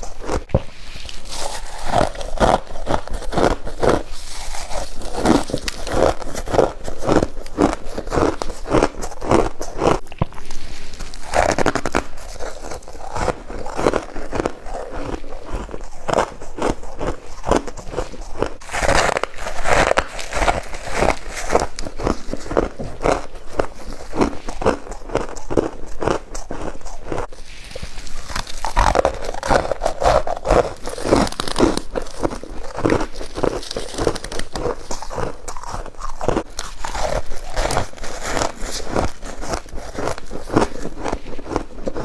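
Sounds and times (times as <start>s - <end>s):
crunching and chewing frost: 0.0s - 42.0s.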